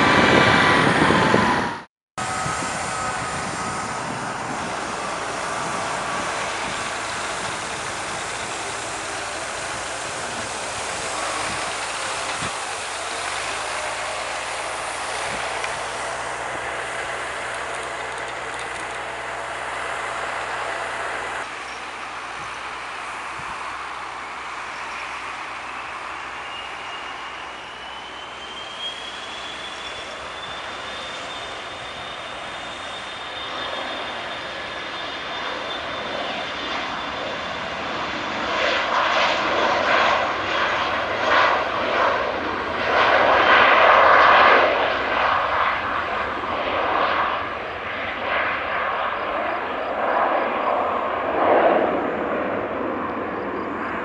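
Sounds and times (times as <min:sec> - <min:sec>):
jet engines spooling up: 0:00.0 - 0:54.0.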